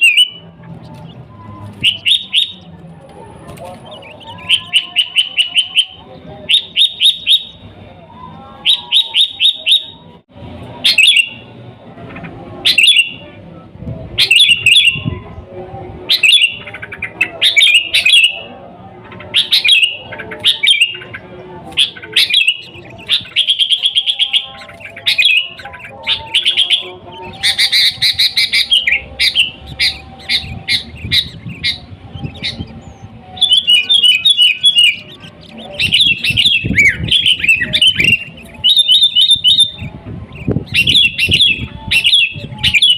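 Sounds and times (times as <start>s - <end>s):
bird singing whistled notes: 0.0s - 0.5s, 1.1s - 2.7s, 3.8s - 7.7s, 8.6s - 10.2s, 10.8s - 11.5s, 12.6s - 13.2s, 14.2s - 15.1s, 16.1s - 18.5s, 19.4s - 42.9s.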